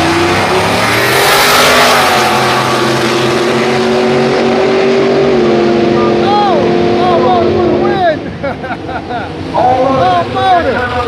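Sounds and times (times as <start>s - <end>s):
drag racing engines roaring: 0.0s - 11.0s.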